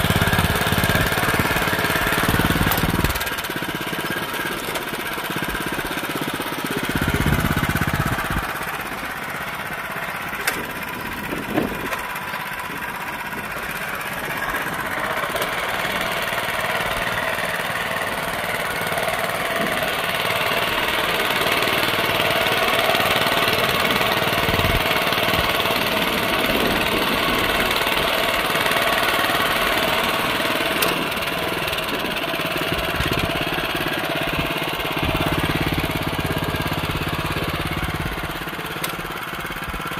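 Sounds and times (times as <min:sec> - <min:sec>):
tiller engine running: 0:00.0 - 0:39.9.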